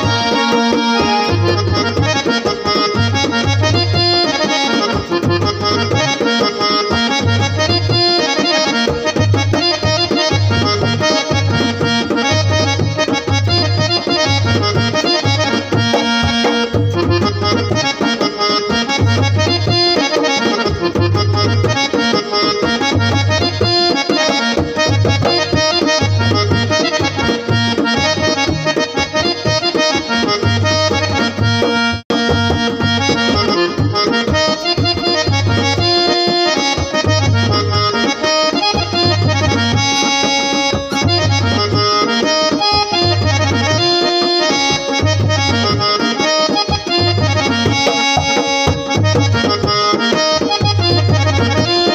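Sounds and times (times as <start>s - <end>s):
dholak drum beating: 0.0s - 51.9s
keyboard reed folk melody: 0.0s - 51.9s.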